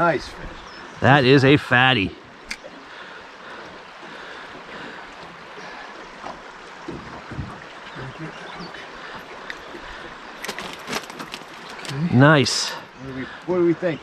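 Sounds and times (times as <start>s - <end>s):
river water washing around boat: 0.0s - 14.0s.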